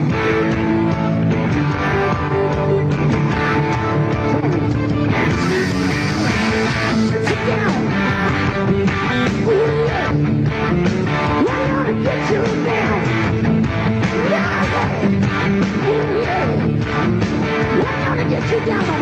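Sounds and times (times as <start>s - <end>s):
bass guitar: 0.0s - 19.0s
distorted electric guitar bending notes: 0.0s - 19.0s
drums: 0.0s - 19.0s.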